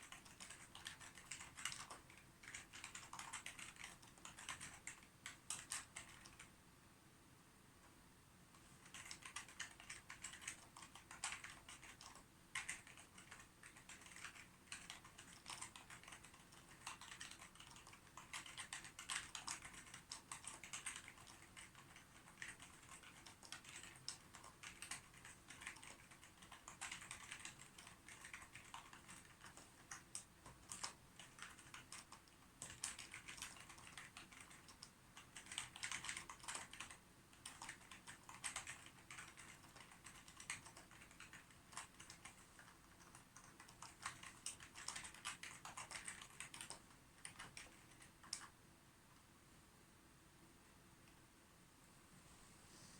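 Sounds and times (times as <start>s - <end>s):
keyboard typing: 0.0s - 6.5s, 8.8s - 48.6s.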